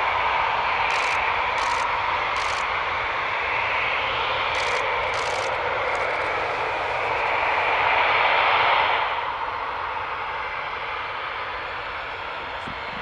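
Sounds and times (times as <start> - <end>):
jet engines whining: 0.0 - 13.0
rush of exhaust noise: 0.0 - 13.0.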